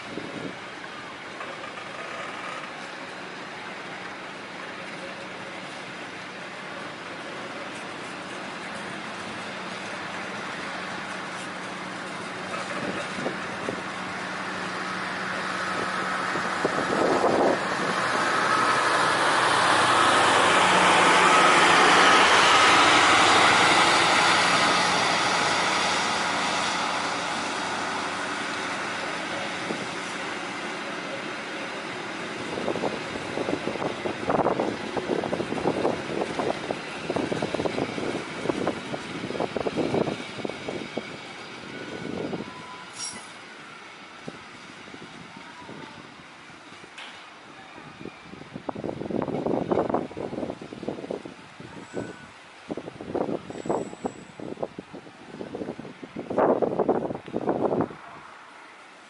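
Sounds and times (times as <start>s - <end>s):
train coaches rumbling past: 0.0s - 59.0s.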